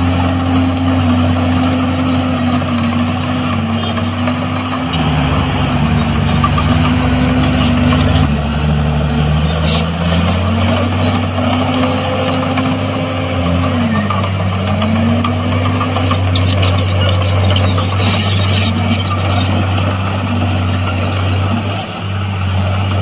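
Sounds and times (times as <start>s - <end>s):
earthmoving machinery diesel engine: 0.0s - 23.0s
lower-pitched engine: 0.0s - 23.0s.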